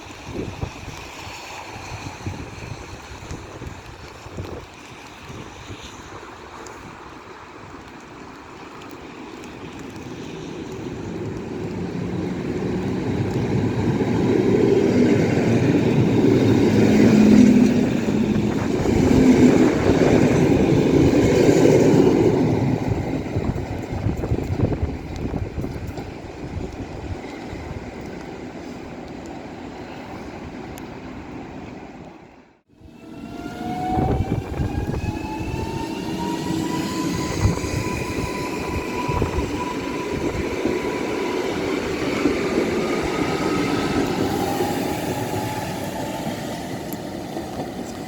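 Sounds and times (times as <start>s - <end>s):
wind noise on microphone: 0.0s - 7.9s, 9.6s - 28.9s, 32.8s - 48.0s
train passing through station: 0.0s - 48.0s.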